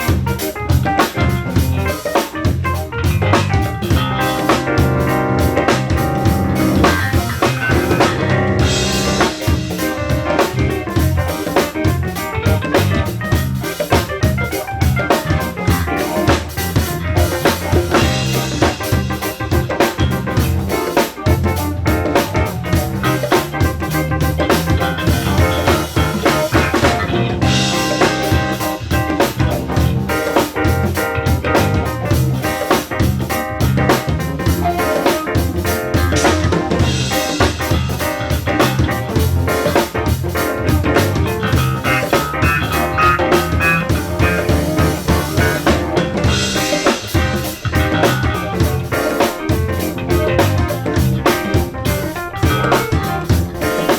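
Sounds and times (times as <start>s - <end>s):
drum kit beat: 0.0s - 53.9s
live band playing: 0.0s - 53.9s.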